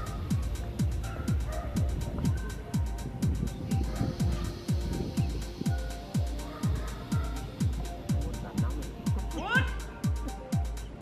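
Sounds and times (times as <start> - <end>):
hi-hat ticks: 0.0 - 11.0
kick drum beat: 0.0 - 11.0.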